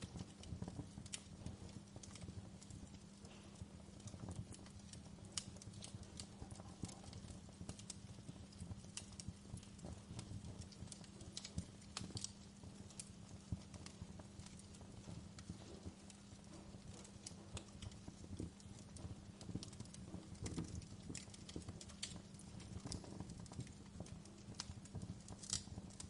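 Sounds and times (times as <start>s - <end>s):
fireplace crackling and popping: 0.0s - 26.0s
low rumble of burning wood: 0.0s - 26.0s.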